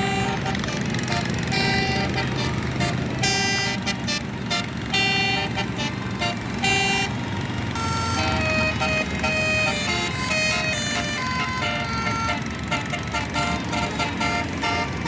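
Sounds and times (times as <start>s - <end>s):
bus engine rumble: 0.0s - 15.0s
bus horn playing a tune: 0.0s - 15.0s.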